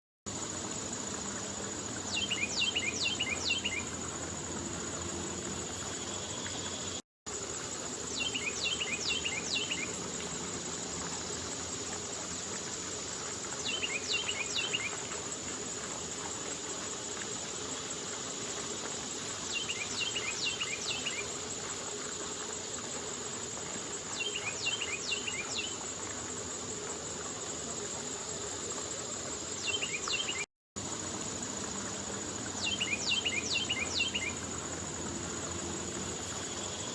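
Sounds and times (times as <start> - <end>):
high-pitched insect trill: 0.3 - 36.9.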